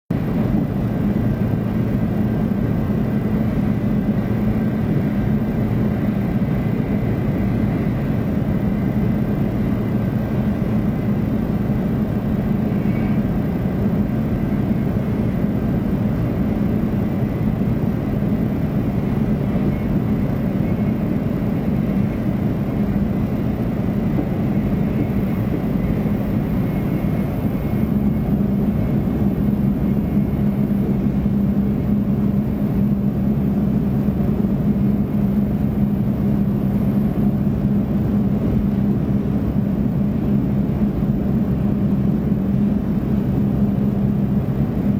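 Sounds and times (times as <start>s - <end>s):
faint high whine: 0.2s - 44.9s.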